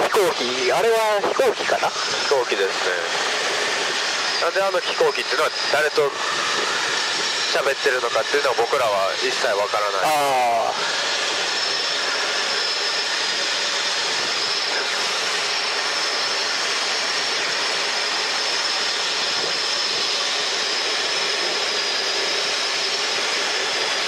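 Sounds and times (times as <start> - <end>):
helicopter engine and rotor drone: 0.0 - 24.0
high-pitched whine: 0.0 - 24.0.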